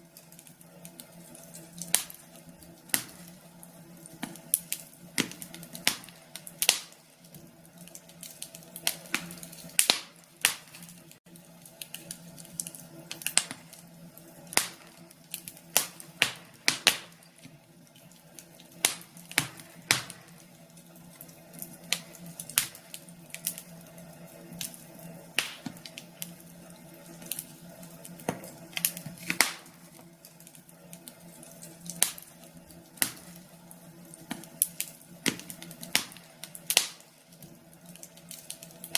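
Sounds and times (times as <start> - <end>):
burning logs crackling: 0.0 - 38.9.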